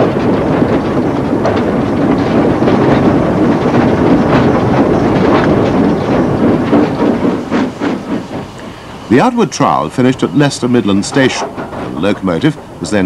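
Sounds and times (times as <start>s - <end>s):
steam train rumble: 0.0s - 13.0s
wheels clicking over rail joints: 0.0s - 13.0s.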